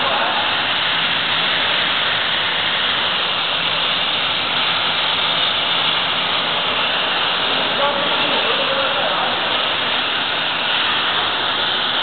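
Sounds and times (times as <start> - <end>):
parts washer rushing hiss: 0.0 - 12.0.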